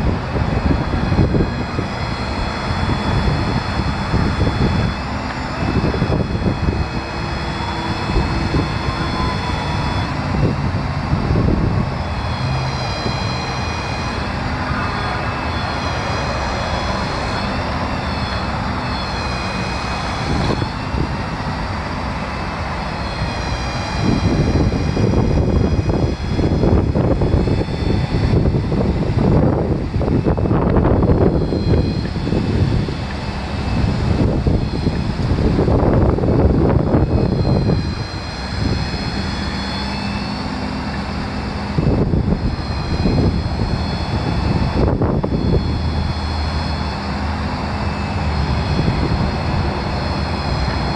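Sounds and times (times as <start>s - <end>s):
diesel engine running: 0.0s - 50.9s
high whine: 0.0s - 50.9s
rough low rumble: 0.0s - 50.9s.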